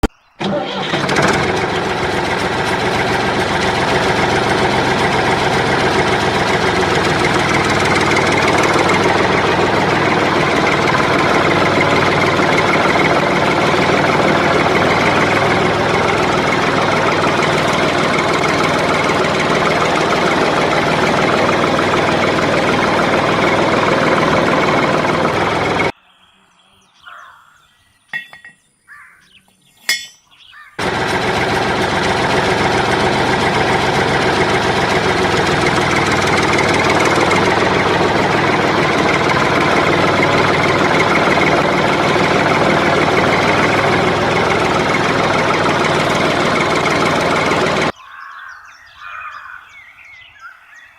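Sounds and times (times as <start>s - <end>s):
motor running loudly: 0.0s - 25.9s, 30.8s - 47.9s.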